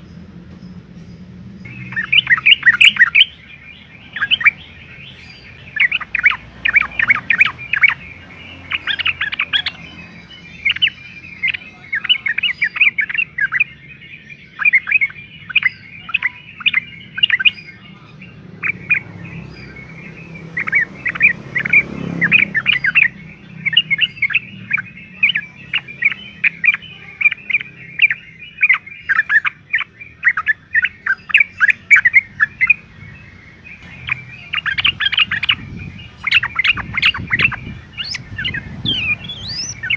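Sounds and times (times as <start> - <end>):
bulbul chattering chirps: 1.6 - 39.9.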